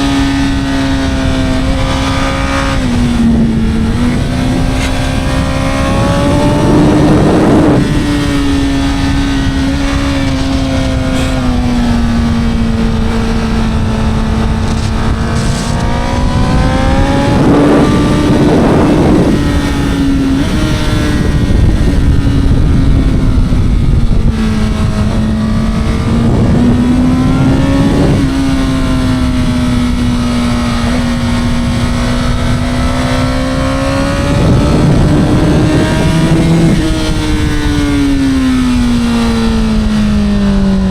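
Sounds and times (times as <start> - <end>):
motorcycle engine at high revs: 0.0 - 40.9
rushing wind: 0.0 - 40.9.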